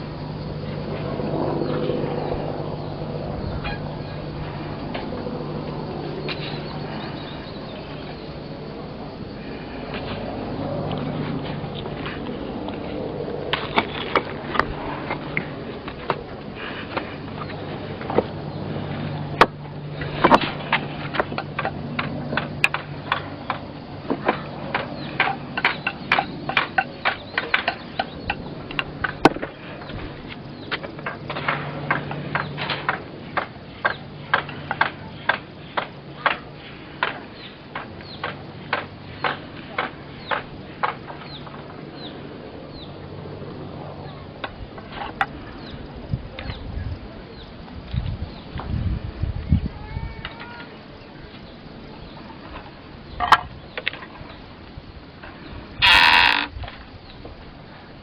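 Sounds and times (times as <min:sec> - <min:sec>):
small birds chirping: 0:00.0 - 0:54.5
steady low hum: 0:00.0 - 0:58.0.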